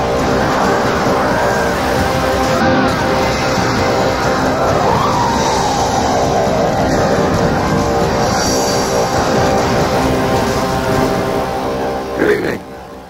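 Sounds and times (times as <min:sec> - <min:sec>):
swooping gliding tone: 0:00.0 - 0:12.4
rock theme music: 0:00.0 - 0:13.0.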